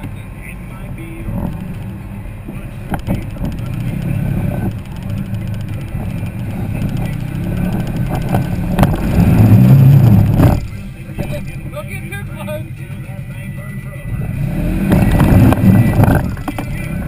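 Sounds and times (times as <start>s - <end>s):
off-road vehicle engine running: 0.0s - 17.0s.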